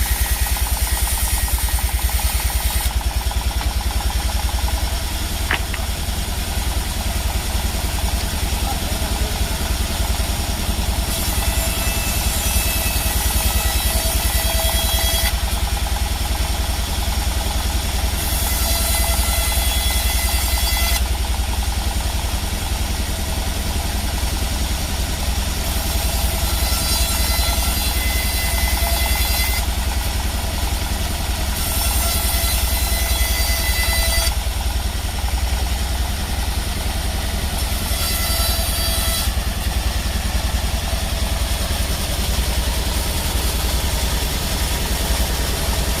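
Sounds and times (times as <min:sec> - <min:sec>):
sawmill machinery drone: 0:00.0 - 0:46.0.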